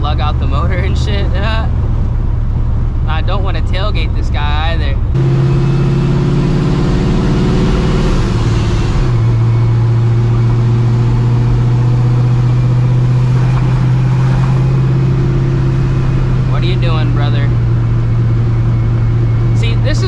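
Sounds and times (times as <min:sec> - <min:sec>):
car exhaust drone: 0:00.0 - 0:20.0.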